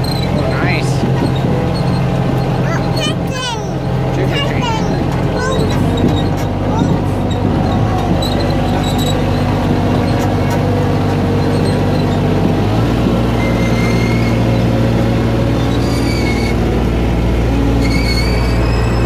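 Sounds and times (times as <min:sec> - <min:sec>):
ride train engine running: 0:00.0 - 0:19.0.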